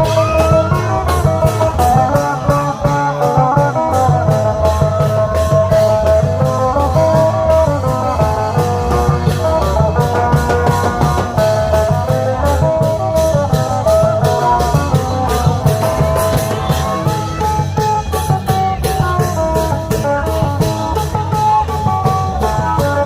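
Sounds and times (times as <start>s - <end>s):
drums and cymbals beat: 0.0s - 23.0s
plucked string melody: 0.0s - 23.0s.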